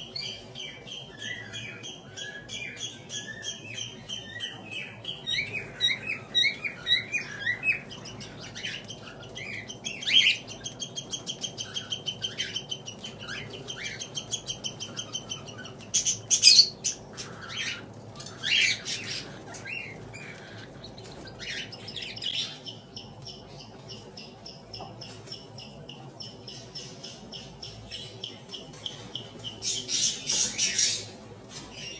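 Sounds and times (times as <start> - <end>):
bird chicks begging calls: 0.0 - 31.2.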